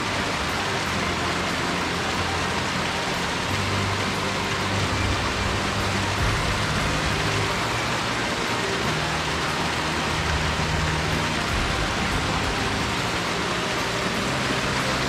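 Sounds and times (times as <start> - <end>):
mountain stream flowing: 0.0 - 15.0.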